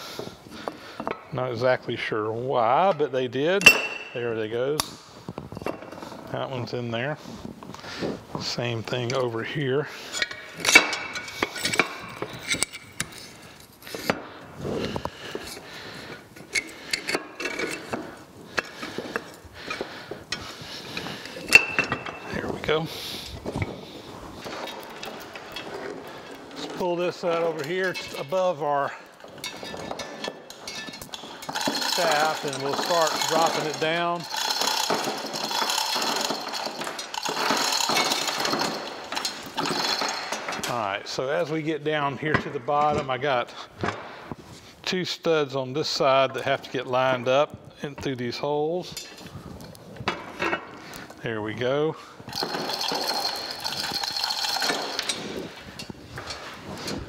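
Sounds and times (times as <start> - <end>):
metal clinks and scraping: 2.6 - 6.7, 7.3 - 44.7, 47.9 - 57.0.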